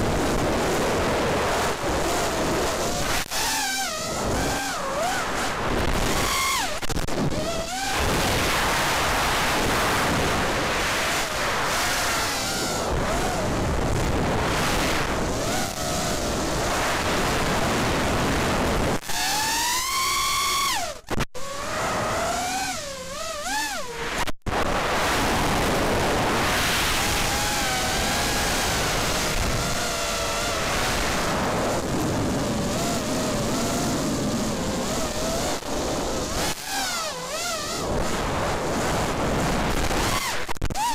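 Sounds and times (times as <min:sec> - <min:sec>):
wind and prop-wash noise: 0:00.0 - 0:40.9
drone motors whining: 0:01.6 - 0:25.6, 0:26.4 - 0:40.9.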